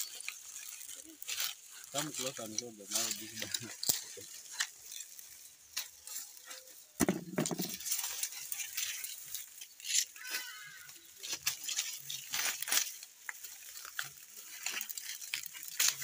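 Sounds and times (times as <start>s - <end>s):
banana peel crackling and rustling: 0.0s - 16.0s.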